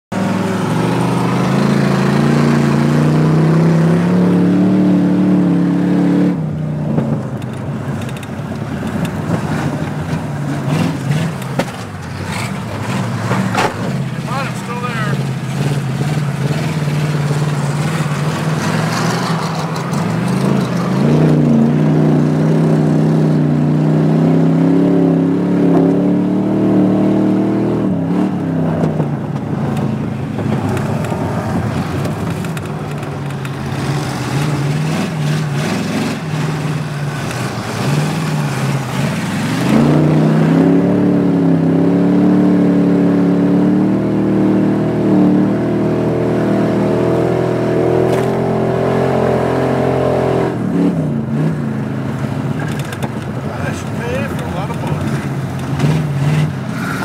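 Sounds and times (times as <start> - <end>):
race car engine revving: 0.1 - 57.0.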